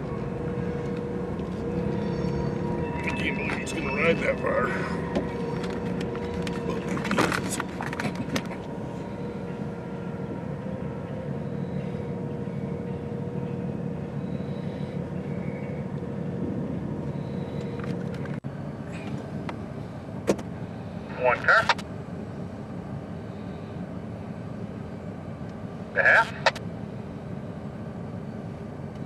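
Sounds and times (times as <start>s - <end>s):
faint steady whine: 0.0s - 29.0s
road and engine noise in car: 0.0s - 29.0s.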